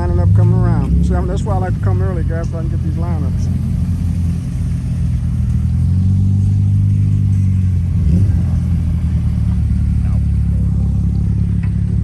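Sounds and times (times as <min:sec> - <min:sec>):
car engines running at low speed: 0:00.0 - 0:12.0.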